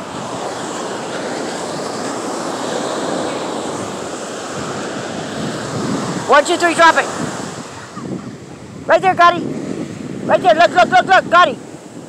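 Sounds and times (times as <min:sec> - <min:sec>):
ocean surf washing up beach: 0:00.0 - 0:12.0
wind blowing across microphone: 0:00.0 - 0:12.0.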